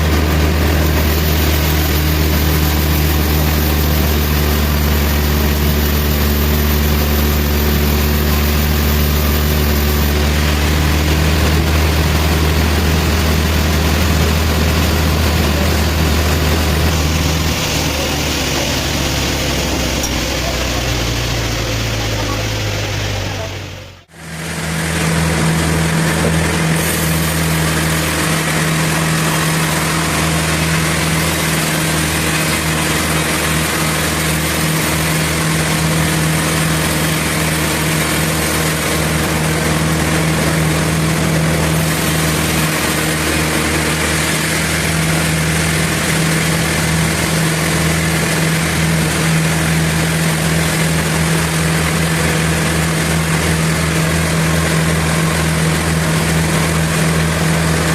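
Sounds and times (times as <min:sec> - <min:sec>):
sawmill machinery humming: 0:00.0 - 0:57.9.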